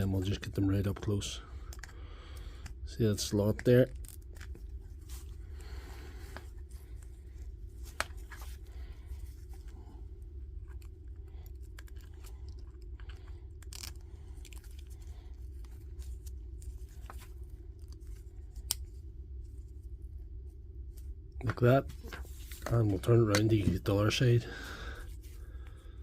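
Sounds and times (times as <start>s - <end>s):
steady low hum: 0.0s - 26.0s
rustling while handling parts: 0.1s - 26.0s.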